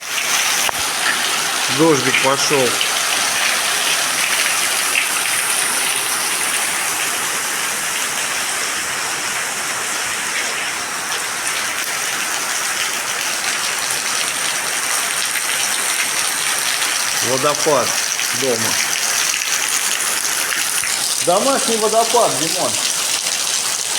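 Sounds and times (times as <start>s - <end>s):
water pattering and splashing: 0.0s - 23.9s.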